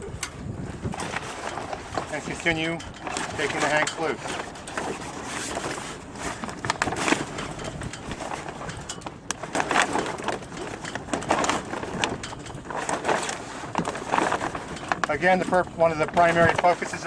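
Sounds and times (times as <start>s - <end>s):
sailcloth rustling: 0.5s - 17.0s.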